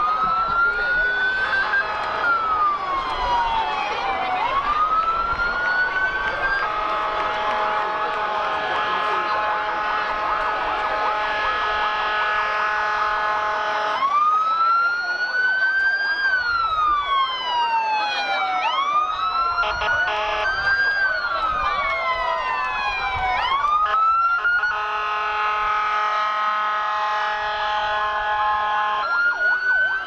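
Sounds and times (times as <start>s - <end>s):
fire truck sirens wailing: 0.0s - 30.0s
steady held siren tone: 0.0s - 30.0s.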